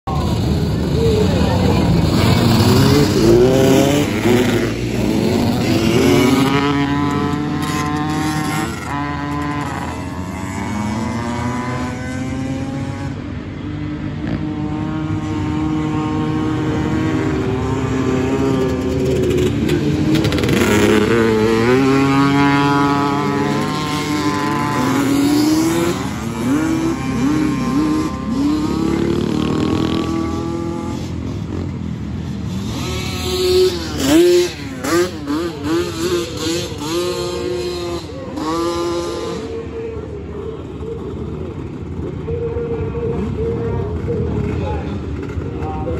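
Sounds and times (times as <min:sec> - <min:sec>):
race engines revving: 0:00.0 - 0:45.9.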